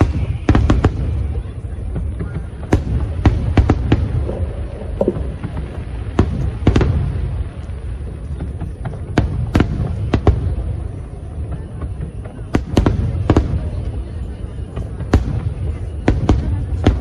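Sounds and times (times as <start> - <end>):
fireworks bangs: 0.0 - 17.0
low rumble of bursting shells: 0.0 - 17.0.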